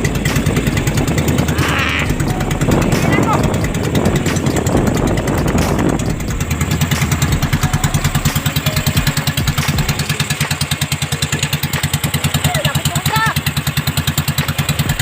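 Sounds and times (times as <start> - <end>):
small boat engine puttering: 0.0 - 15.0.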